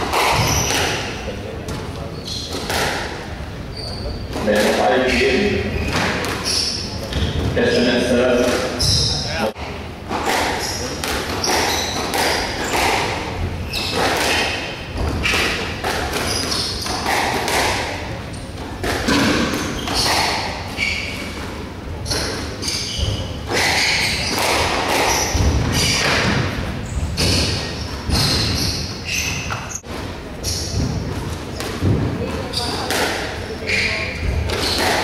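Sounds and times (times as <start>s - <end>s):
squash ball hit by racquets: 0.0s - 3.3s, 4.3s - 35.0s
shoes squeaking on wooden floor: 0.2s - 1.2s, 1.8s - 2.7s, 3.6s - 9.6s, 10.2s - 17.2s, 18.3s - 32.9s, 33.5s - 35.0s.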